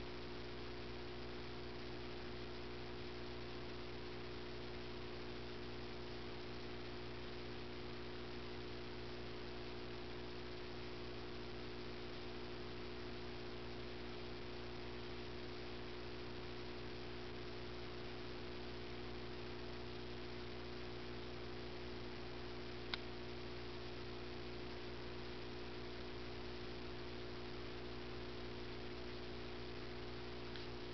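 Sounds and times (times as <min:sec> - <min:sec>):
steady low hum with hiss: 0:00.0 - 0:30.9.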